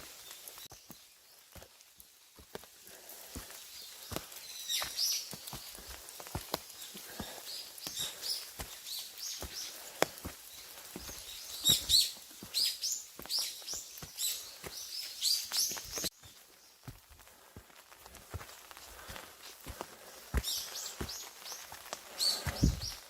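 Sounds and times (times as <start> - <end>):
birds chirping: 0.0 - 1.8, 2.5 - 23.0
footsteps on a path: 0.0 - 23.0.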